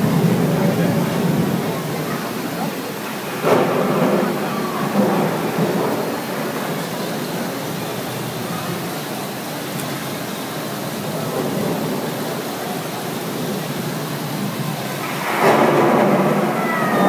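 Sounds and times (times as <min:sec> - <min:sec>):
fountain mist hissing: 0:00.0 - 0:17.0.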